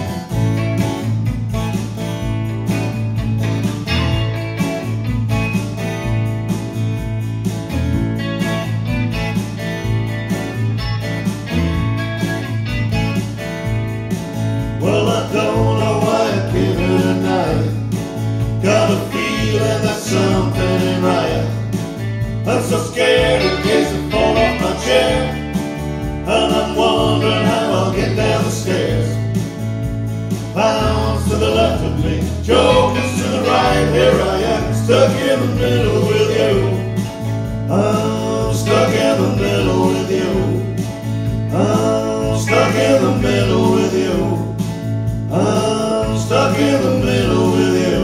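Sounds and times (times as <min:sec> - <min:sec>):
electric bass guitar: 0:00.0 - 0:48.0
electric lead guitar with bent notes: 0:00.0 - 0:48.0
strummed acoustic guitar: 0:00.0 - 0:48.0.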